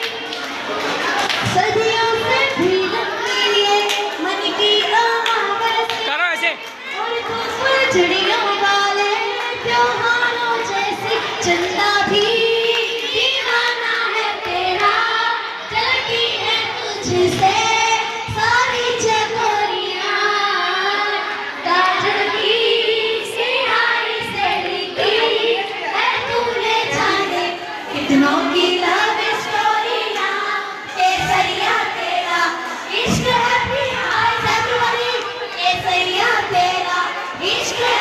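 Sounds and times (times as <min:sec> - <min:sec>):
children singing together: 0:00.0 - 0:06.0, 0:06.8 - 0:38.0.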